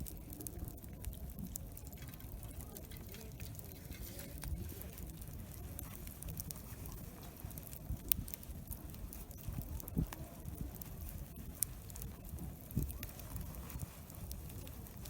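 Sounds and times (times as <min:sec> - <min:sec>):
campfire crackling: 0:00.0 - 0:15.0
murmur of people talking: 0:00.0 - 0:15.0.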